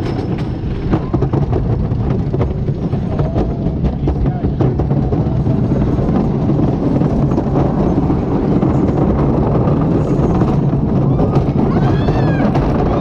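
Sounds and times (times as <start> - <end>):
roller coaster wheels rumbling on track: 0.0 - 13.0.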